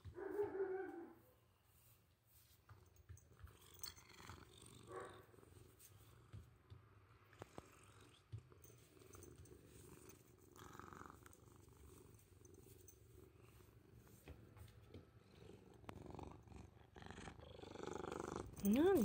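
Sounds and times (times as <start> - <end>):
cat purring: 3.5 - 19.0.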